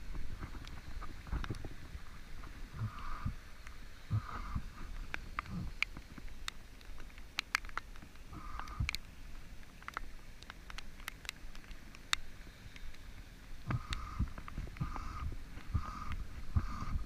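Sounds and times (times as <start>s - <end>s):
low wind rumble: 0.0s - 17.0s
raindrops tapping: 0.0s - 17.0s.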